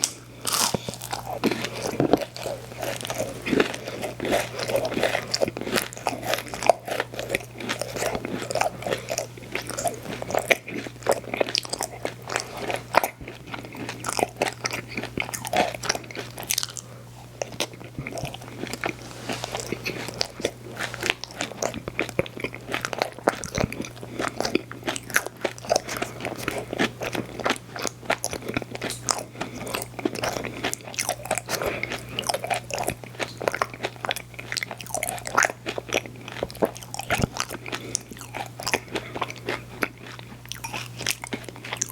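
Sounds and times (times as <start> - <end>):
crunchy bites and wet chewing: 0.0 - 41.9
steady low hum: 0.0 - 41.9.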